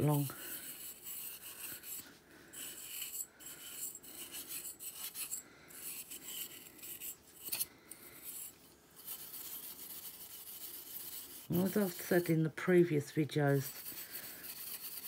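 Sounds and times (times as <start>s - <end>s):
steel wool scrubbing metal: 0.0s - 15.0s.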